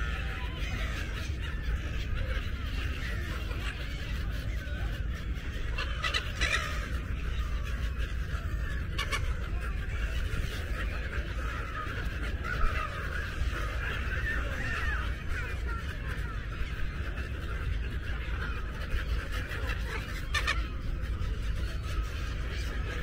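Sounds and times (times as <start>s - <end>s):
seagulls calling: 0.0s - 23.0s.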